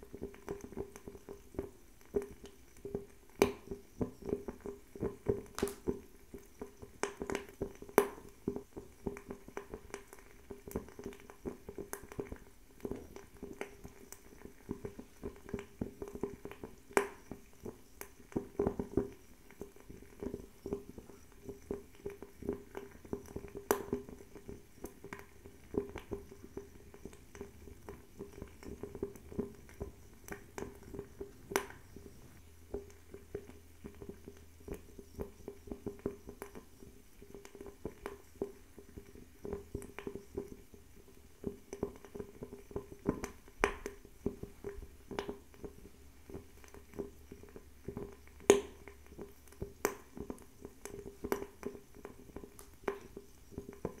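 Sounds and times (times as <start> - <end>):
faint steady flame: 0.0 - 54.0
fire crackling and popping: 0.0 - 54.0.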